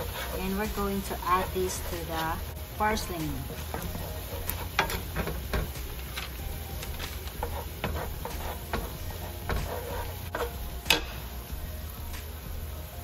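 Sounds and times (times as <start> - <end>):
spatula scraping frying pan: 0.0 - 11.4
spatula tapping pan: 0.0 - 11.4.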